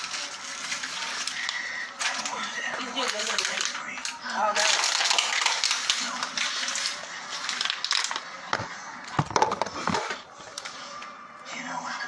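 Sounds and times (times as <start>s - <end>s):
plastic bottles crinkling: 0.0s - 11.1s.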